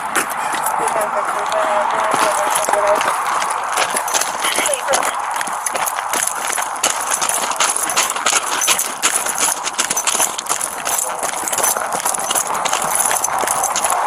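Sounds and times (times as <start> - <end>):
footsteps crunching on gravel: 0.0 - 14.0.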